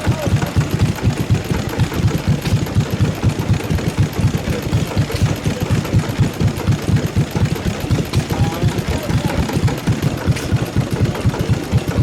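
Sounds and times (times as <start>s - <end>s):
stationary diesel engine running: 0.0s - 12.0s.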